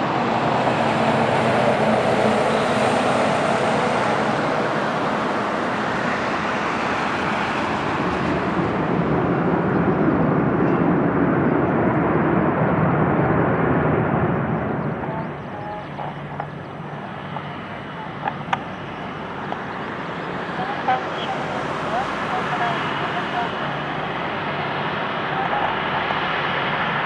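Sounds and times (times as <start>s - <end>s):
faint high engine whine: 0.0s - 27.0s
jet airliner engines: 0.0s - 27.0s.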